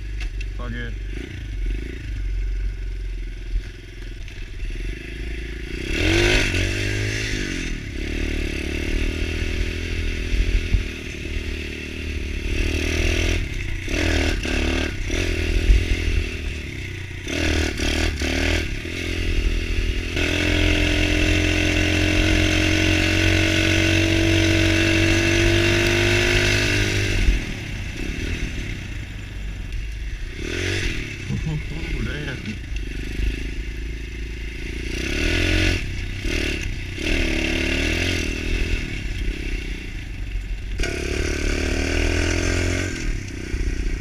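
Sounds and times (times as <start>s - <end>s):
motorbike engine revving: 0.0s - 44.0s.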